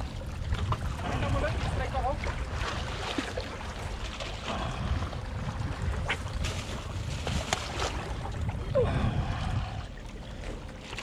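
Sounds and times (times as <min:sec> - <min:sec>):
wind buffeting microphone: 0:00.0 - 0:10.4
sea water washing against rocks: 0:00.6 - 0:09.9.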